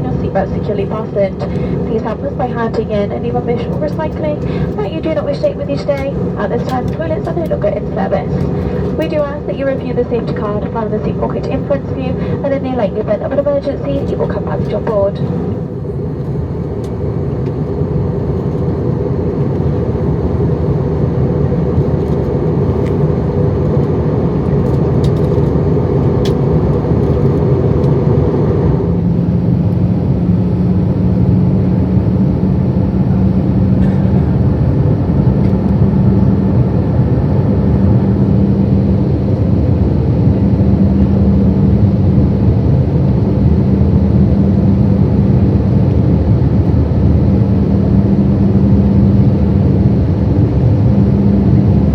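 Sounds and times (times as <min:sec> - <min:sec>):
airplane cabin engine roar: 0:00.0 - 0:51.9
low steady hum: 0:00.0 - 0:51.9.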